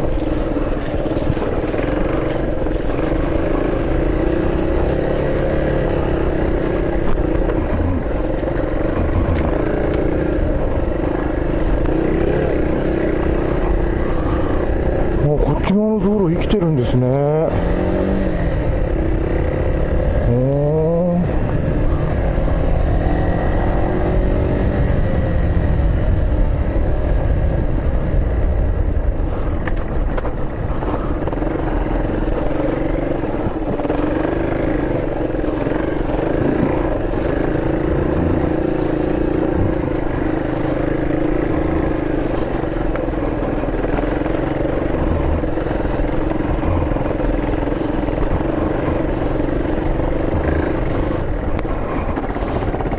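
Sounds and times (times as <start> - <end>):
vehicle engine revving and rumbling: 0.0 - 52.9.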